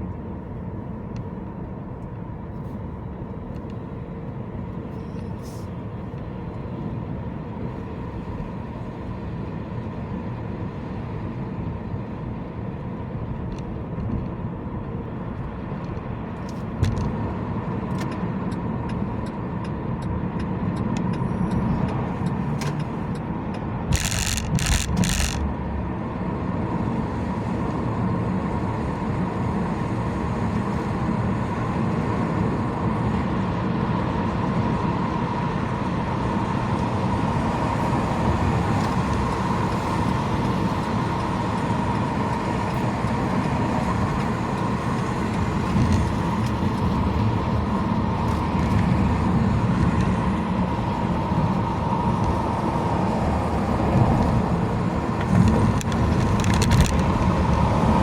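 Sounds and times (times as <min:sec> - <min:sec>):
road and tyre noise: 0:00.0 - 0:58.0.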